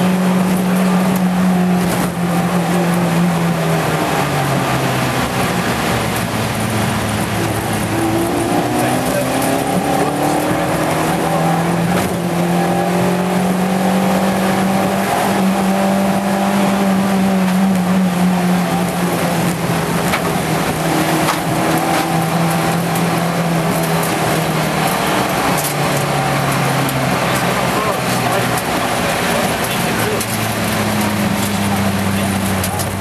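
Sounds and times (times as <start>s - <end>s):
car engine under load: 0.0s - 33.0s.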